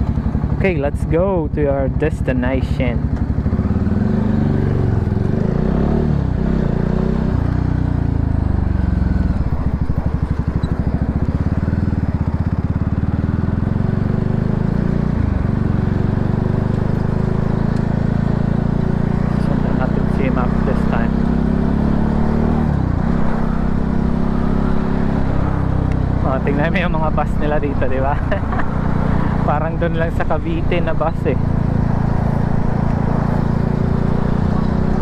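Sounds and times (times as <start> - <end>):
motorcycle engine pulling away: 3.0 - 35.0.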